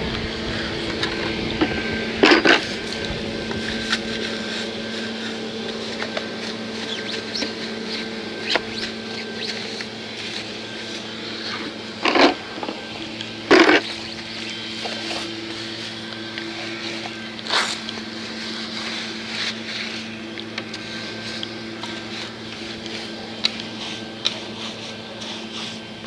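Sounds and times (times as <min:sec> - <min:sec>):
steady machine hum: 0:00.0 - 0:26.0
brush scrubbing: 0:02.2 - 0:26.0.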